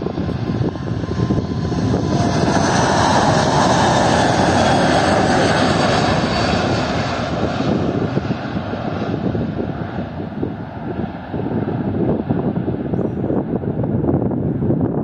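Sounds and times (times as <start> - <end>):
jet engines at takeoff: 0.0 - 15.0
steady jet whine: 0.0 - 15.0.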